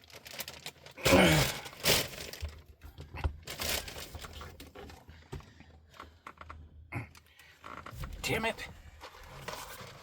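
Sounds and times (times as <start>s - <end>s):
rustling and crinkling of tools: 1.6s - 10.0s.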